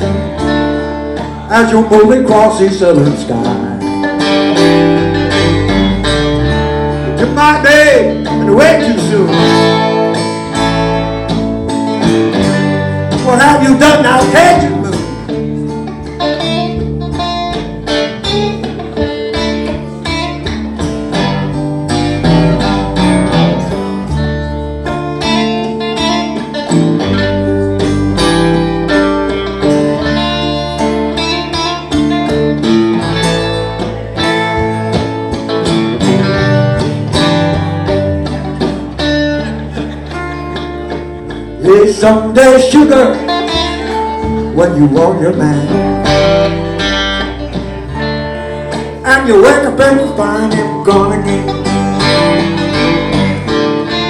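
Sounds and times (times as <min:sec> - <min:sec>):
guitars picking notes: 0:00.0 - 0:54.0
low bass line: 0:00.0 - 0:54.0.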